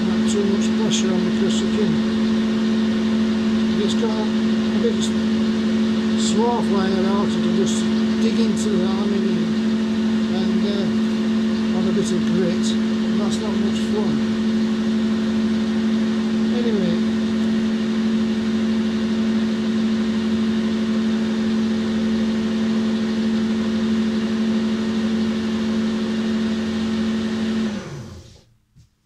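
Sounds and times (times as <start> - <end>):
lathe humming: 0.0 - 28.4.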